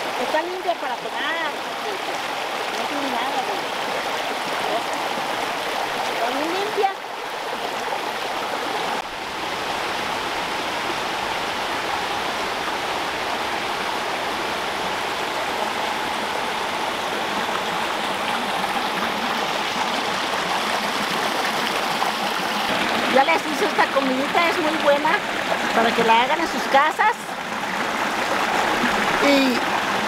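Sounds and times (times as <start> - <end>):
brook running over rocks: 0.0 - 30.0.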